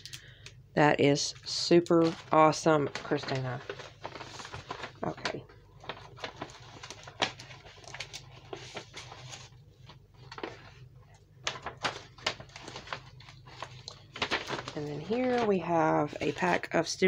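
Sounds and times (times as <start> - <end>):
cellophane packaging crinkling: 1.2 - 16.8.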